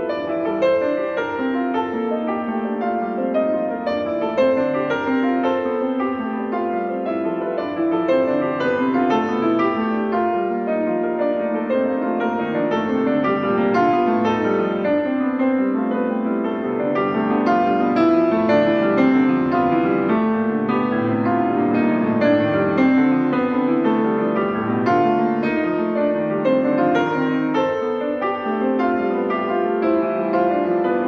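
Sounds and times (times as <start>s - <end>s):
solo piano music: 0.0s - 31.0s.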